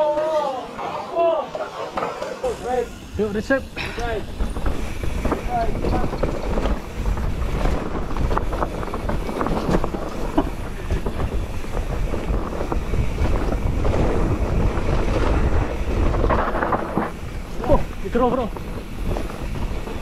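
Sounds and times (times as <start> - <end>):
wind rumbling on microphone: 2.5 - 20.0
tyre noise on dirt: 3.6 - 20.0
bike rattling clicks and knocks: 3.7 - 20.0.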